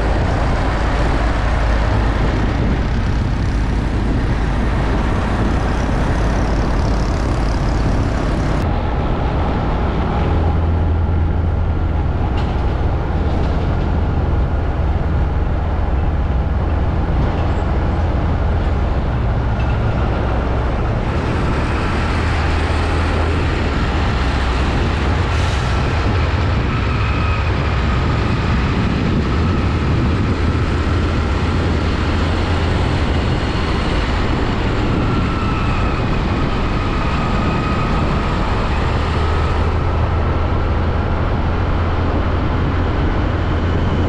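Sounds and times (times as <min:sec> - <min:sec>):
heavy trucks rumbling on road: 0:00.0 - 0:44.0.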